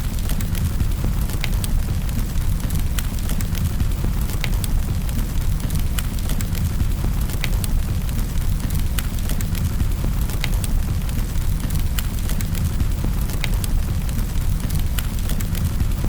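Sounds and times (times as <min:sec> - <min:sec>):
fire crackling and popping: 0:00.0 - 0:16.0
low rumble of flame: 0:00.0 - 0:16.0.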